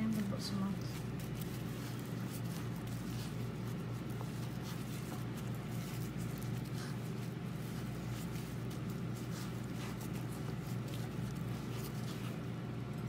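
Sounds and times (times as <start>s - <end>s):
breadcrumbs rustling in a bowl: 0.0s - 13.0s
steady low hum: 0.0s - 13.0s.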